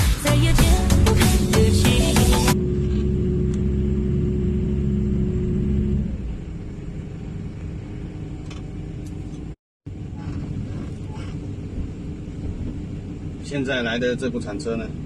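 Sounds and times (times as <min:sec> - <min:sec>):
diesel engine running: 0:00.3 - 0:15.0.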